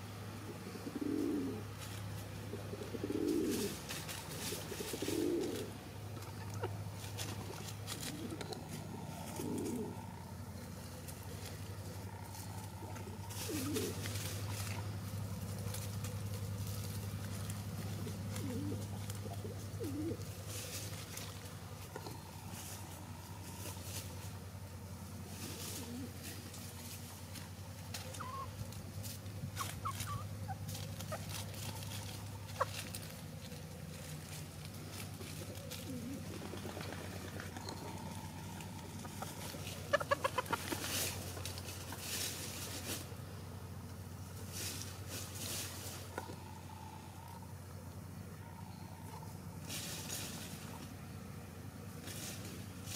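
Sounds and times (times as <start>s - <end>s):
soft coo-like bird calls: 0.0s - 52.9s
steady low hum: 0.0s - 52.9s
hen clucking: 0.2s - 44.4s, 45.8s - 49.7s.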